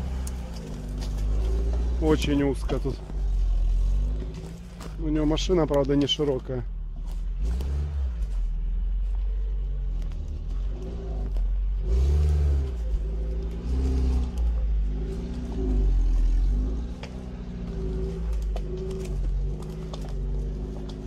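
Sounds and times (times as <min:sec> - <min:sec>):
engine revving up and down: 0:00.0 - 0:21.0.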